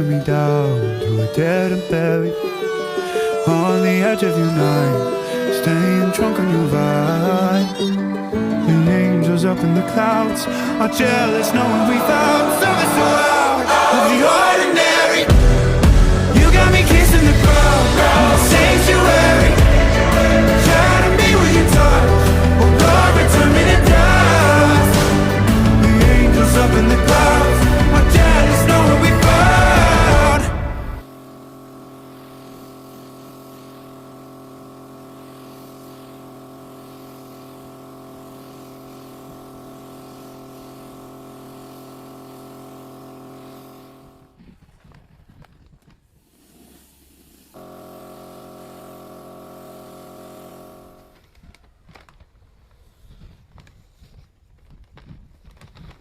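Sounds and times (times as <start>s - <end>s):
machine humming: 0.0s - 44.5s, 46.3s - 52.2s.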